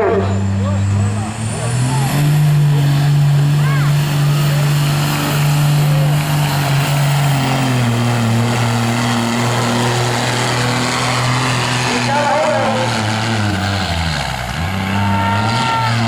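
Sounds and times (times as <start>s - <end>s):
vehicle engine droning under load: 0.0s - 16.0s.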